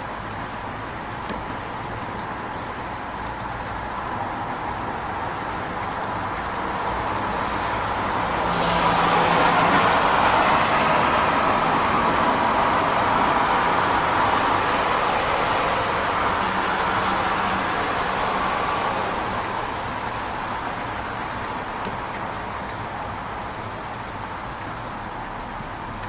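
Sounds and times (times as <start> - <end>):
traffic on wet pavement: 0.0 - 26.0
vehicle passing on wet road: 0.2 - 26.0.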